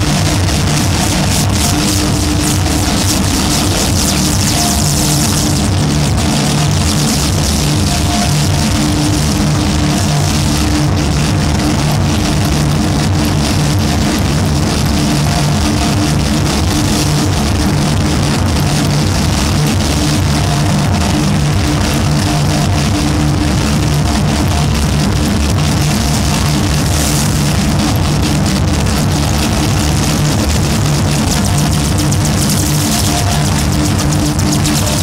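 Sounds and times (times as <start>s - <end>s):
distorted noise drone music: 0.0s - 35.0s.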